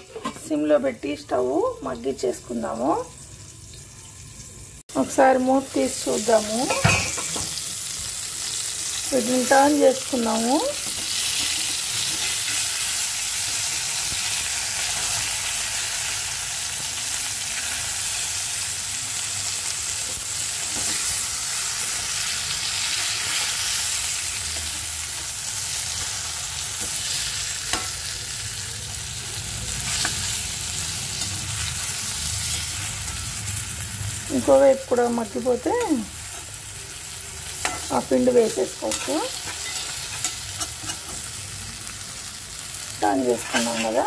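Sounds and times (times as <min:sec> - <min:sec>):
food sizzling in oil: 0:00.0 - 0:44.0.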